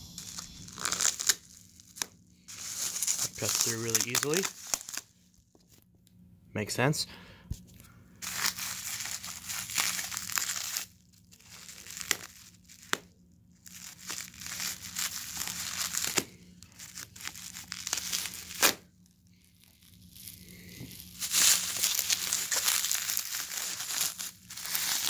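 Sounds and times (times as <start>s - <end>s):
bubble wrap crinkling: 0.0s - 5.8s, 8.2s - 25.0s
knife cutting bubble wrap: 0.1s - 5.1s, 8.3s - 13.1s, 13.7s - 18.8s, 19.6s - 25.0s.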